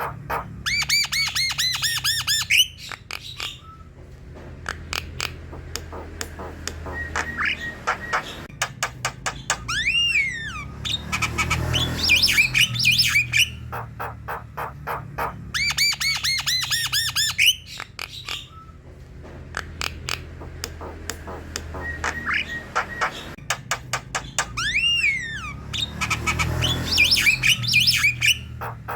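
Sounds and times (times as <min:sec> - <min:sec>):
bird song with clicks and whistles: 0:00.0 - 0:04.0, 0:04.6 - 0:18.9, 0:19.5 - 0:28.9.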